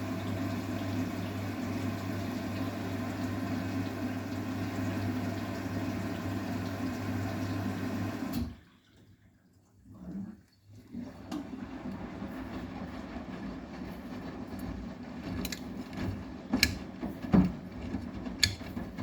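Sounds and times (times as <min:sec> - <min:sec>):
washing machine motor hum: 0:00.0 - 0:08.7, 0:10.9 - 0:19.0.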